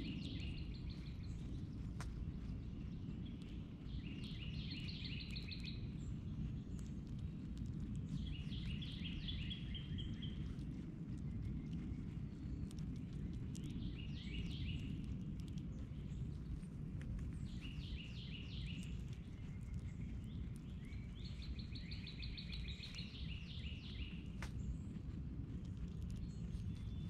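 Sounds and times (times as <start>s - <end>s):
low background rumble: 0.0s - 27.0s
songbird singing: 0.0s - 27.0s.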